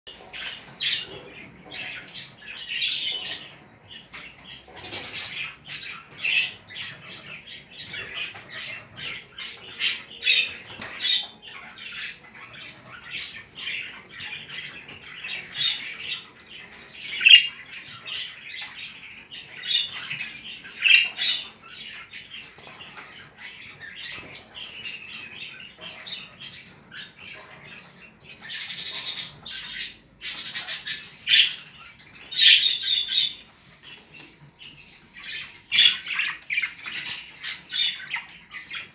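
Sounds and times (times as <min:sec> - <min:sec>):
budgerigars chattering: 0:00.1 - 0:38.9.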